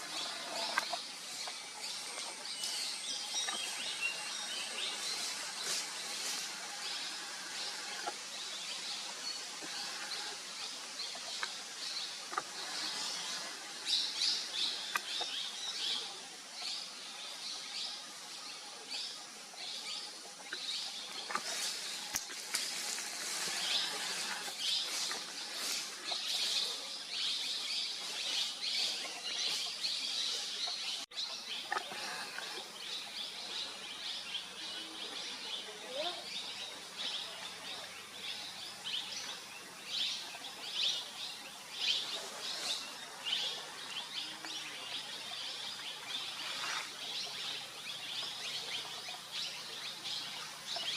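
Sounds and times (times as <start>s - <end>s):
birds chirping: 0.0s - 50.9s
steady high hiss: 0.0s - 50.9s.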